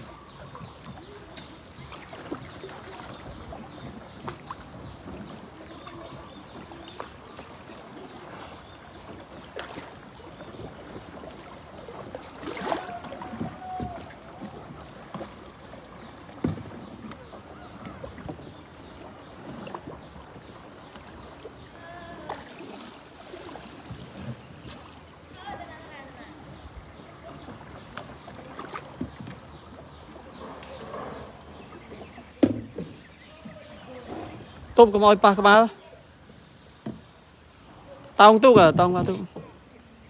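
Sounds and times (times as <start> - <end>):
paddle strokes splashing: 0.0 - 40.0
water washing along hull: 0.0 - 40.0.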